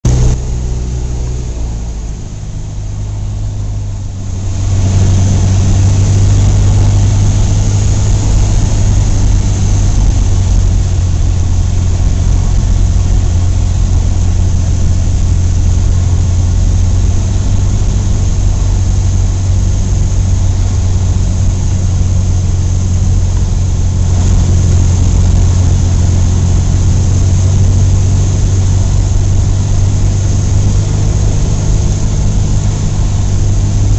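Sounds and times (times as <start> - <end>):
propeller plane engine droning: 0.0 - 33.9.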